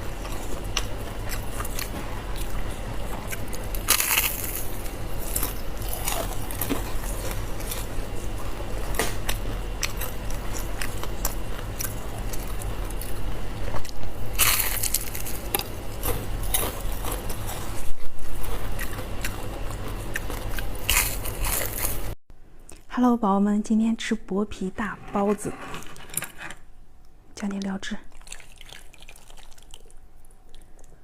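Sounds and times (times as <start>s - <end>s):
chewing crisp fried food: 0.0s - 22.9s, 28.1s - 31.0s
low electrical hum: 0.0s - 31.0s.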